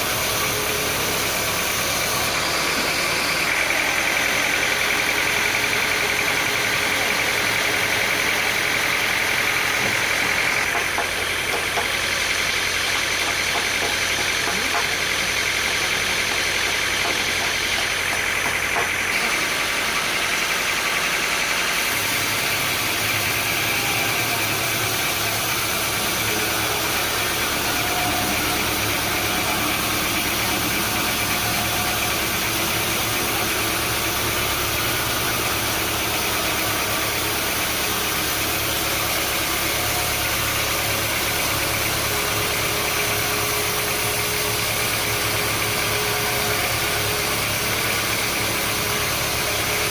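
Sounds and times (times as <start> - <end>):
sawmill machinery humming: 0.0 - 49.9.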